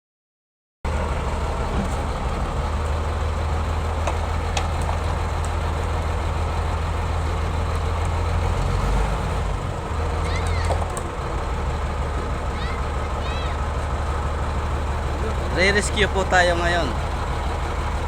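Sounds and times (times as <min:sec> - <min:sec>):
heavy vehicle engine idling: 0:00.9 - 0:18.0.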